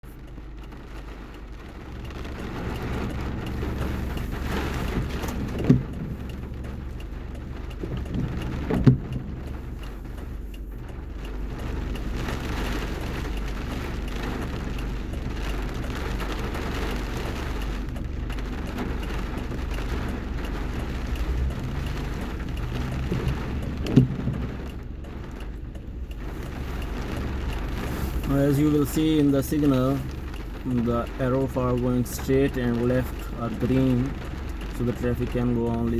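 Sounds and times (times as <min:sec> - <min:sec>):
road and engine rumble: 0:00.0 - 0:35.9
rain hiss: 0:00.1 - 0:35.9.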